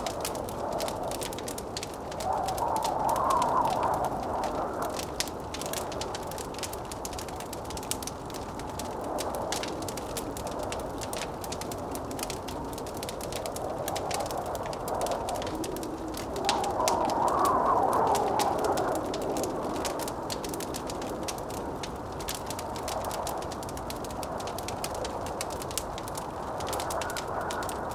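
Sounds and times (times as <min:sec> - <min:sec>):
hollow howling wind: 0:00.0 - 0:27.9
wood fire crackling: 0:00.0 - 0:27.9.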